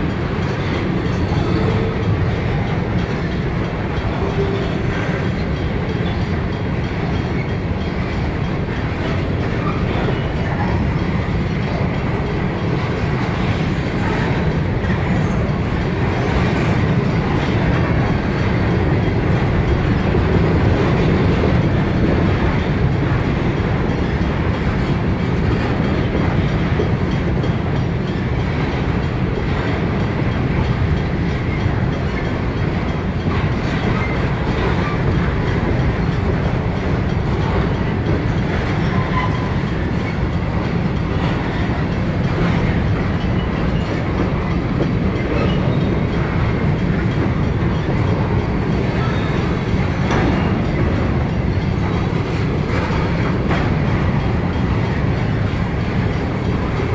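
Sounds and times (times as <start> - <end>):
train wheels rumbling on rails: 0.0 - 56.9
wheels clattering over rail joints: 0.0 - 56.9.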